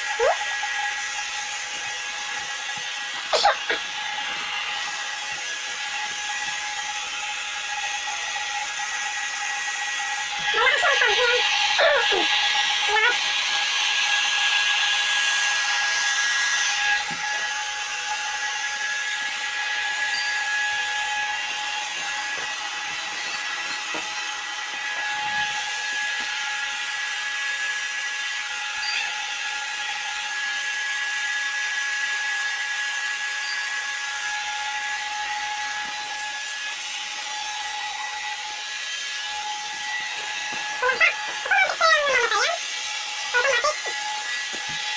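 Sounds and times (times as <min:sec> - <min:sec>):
air pump motor whine: 0:00.0 - 0:44.9.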